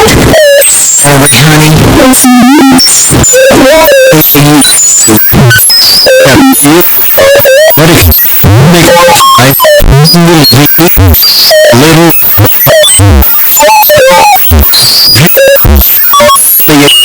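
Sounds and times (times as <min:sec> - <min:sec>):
distorted electronic cacophony: 0:00.0 - 0:17.0.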